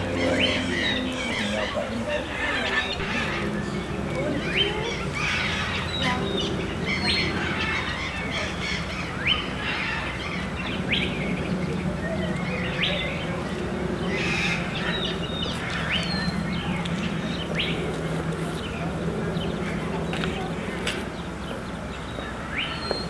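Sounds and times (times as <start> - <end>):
birds chirping: 0.0 - 23.0
steady low hum: 0.0 - 23.0.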